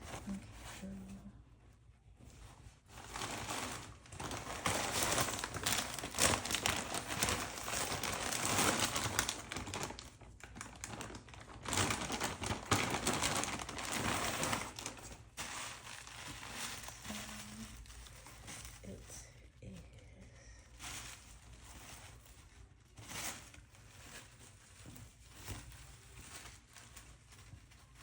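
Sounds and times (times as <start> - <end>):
plastic packaging crinkling: 2.8 - 19.4, 20.6 - 28.0.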